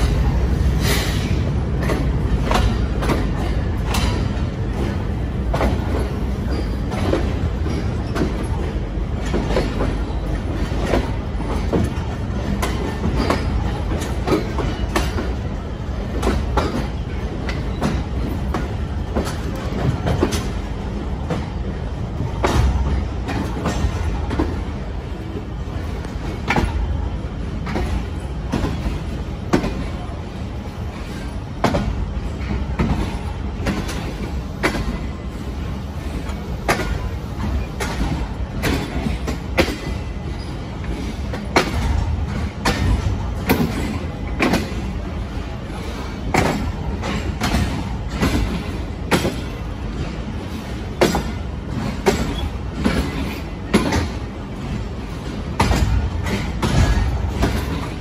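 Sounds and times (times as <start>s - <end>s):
train rumbling on track: 0.0s - 58.0s
train wheels clacking over rail joints: 0.0s - 58.0s.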